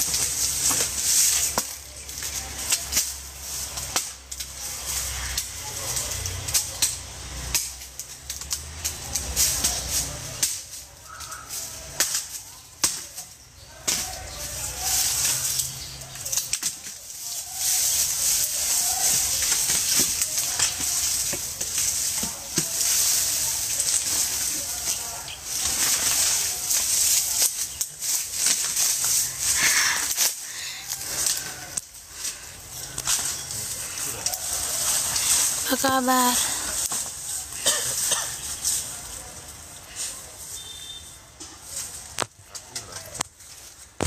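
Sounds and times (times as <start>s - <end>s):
branches snapping and knocking: 0.0s - 44.0s
dry leaves rustling and crackling: 0.0s - 44.0s.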